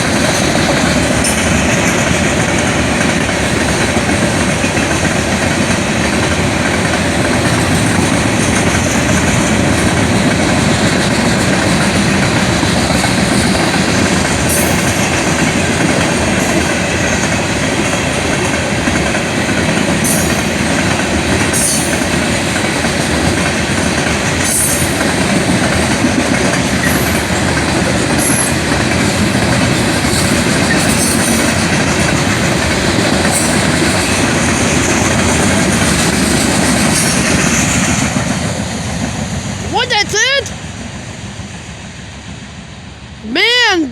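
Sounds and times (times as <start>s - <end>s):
train wheels rumbling on rails: 0.0s - 43.3s.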